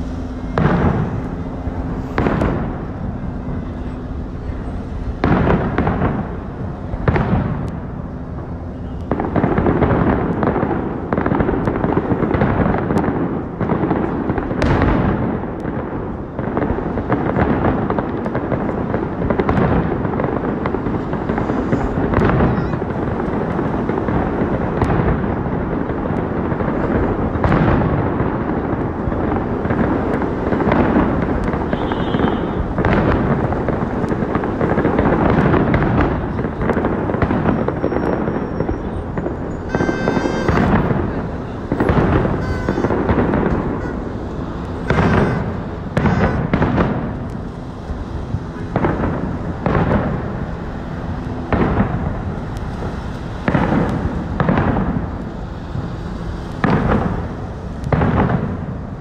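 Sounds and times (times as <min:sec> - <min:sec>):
firework booms: 0:00.0 - 0:59.0
fireworks crackling and popping: 0:00.0 - 0:59.0
loud firework bangs: 0:00.0 - 0:59.0.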